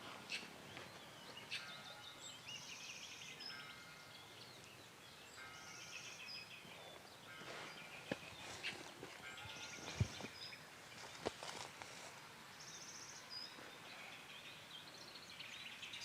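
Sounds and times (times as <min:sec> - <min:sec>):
faint birdsong: 0:00.0 - 0:16.0
low outdoor hiss: 0:00.0 - 0:16.0.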